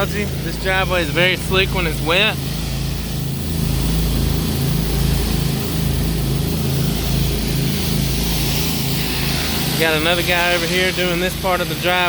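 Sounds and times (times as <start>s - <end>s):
pressure washer engine running: 0.0s - 12.0s
water spraying on concrete: 0.0s - 12.0s.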